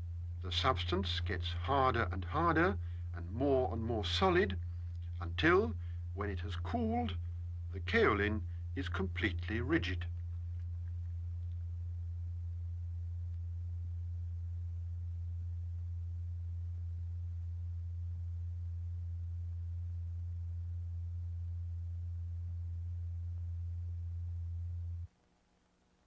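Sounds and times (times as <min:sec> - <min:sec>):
low pure tone: 0:00.0 - 0:25.1.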